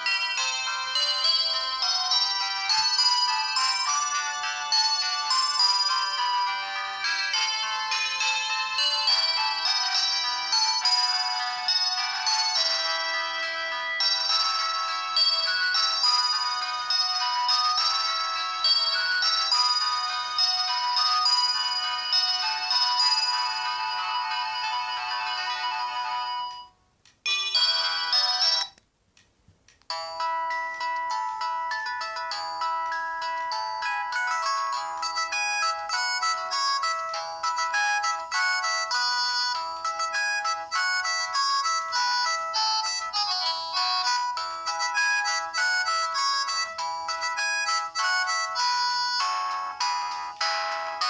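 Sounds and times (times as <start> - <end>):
mobile phone ringtones: 0.0 - 28.8, 29.9 - 51.0.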